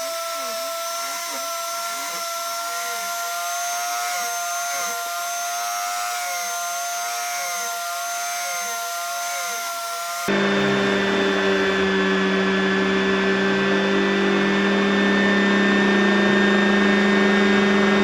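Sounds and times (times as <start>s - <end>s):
power tool motor whine: 0.0s - 18.0s.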